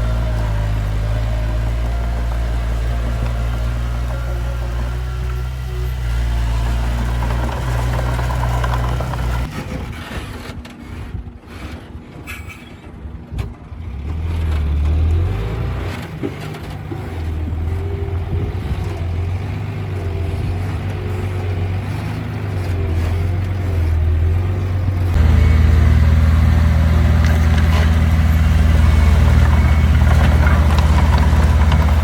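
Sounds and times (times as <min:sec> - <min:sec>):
heavy machinery diesel engine: 0:00.0 - 0:10.0, 0:13.6 - 0:32.0.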